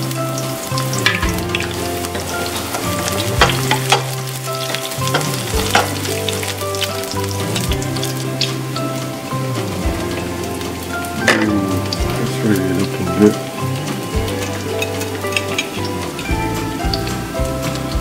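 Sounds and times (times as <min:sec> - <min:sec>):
background music with bass: 0:00.0 - 0:18.0
garlic sizzling in hot oil: 0:00.0 - 0:18.0.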